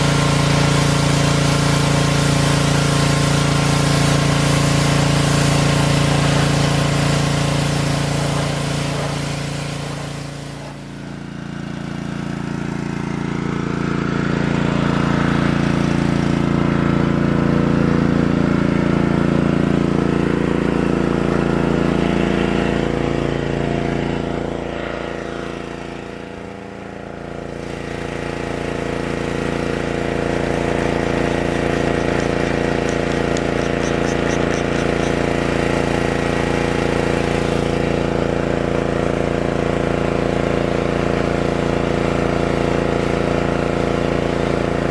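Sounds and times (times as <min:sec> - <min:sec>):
pressure washer engine running: 0:00.0 - 0:44.9.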